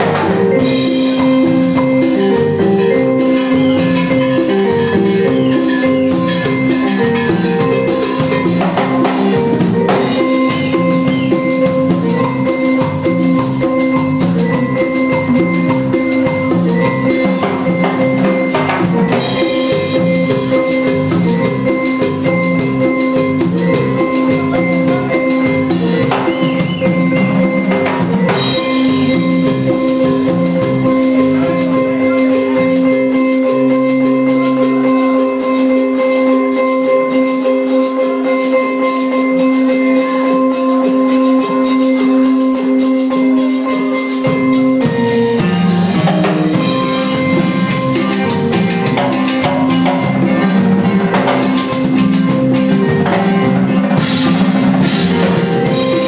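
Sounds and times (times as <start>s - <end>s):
bouncing bass line: 0.0s - 38.5s, 44.2s - 56.0s
live band dance tune: 0.0s - 56.0s.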